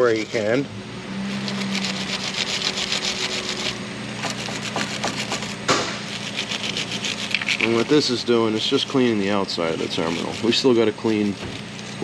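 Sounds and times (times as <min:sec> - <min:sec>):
wire brush scraping metal: 0:01.2 - 0:12.0.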